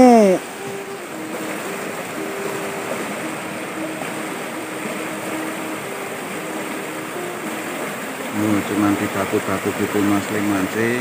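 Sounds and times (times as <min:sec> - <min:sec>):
river water rushing over boulders: 0:00.0 - 0:11.0.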